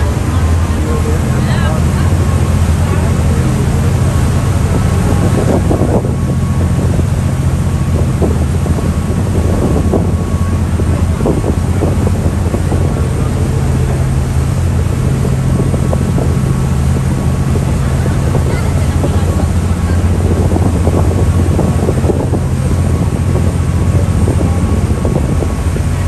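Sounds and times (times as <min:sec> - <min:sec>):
ferry engines droning: 0:00.0 - 0:26.0
wind buffeting microphone: 0:00.0 - 0:26.0.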